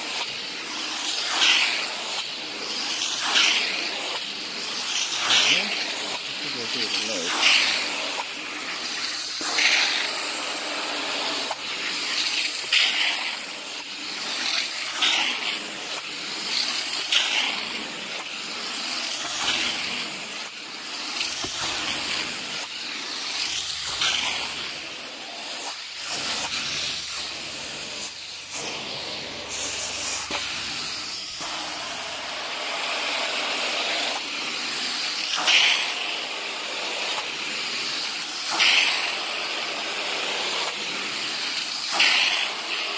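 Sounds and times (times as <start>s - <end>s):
carpet extraction wand hissing: 0.0s - 42.9s.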